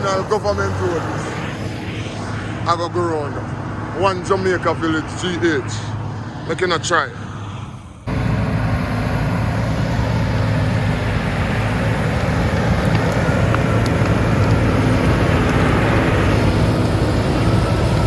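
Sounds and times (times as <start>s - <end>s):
heavy machine engine humming: 0.0s - 18.0s.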